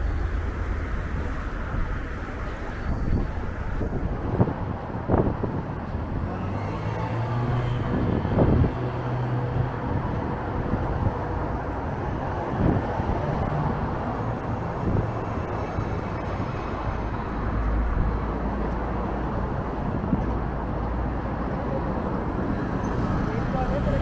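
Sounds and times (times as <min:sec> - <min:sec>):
road traffic passing: 0:00.0 - 0:24.0
wind buffeting microphone: 0:00.0 - 0:24.0.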